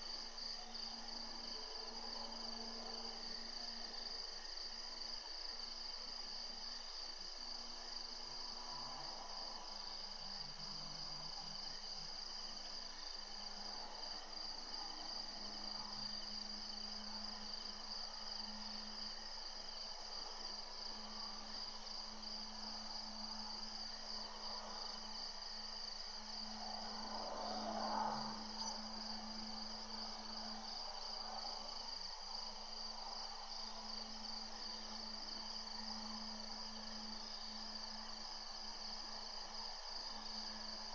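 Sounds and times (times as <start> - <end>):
crickets and insects trilling: 0.1 - 40.9.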